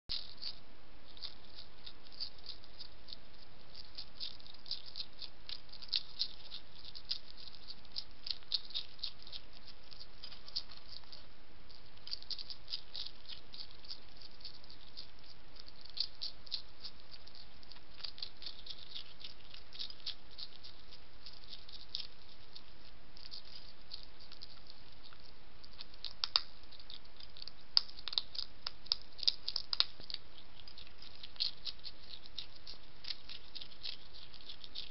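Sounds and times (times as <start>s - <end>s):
hedgehog crunching dry food: 0.1s - 34.9s.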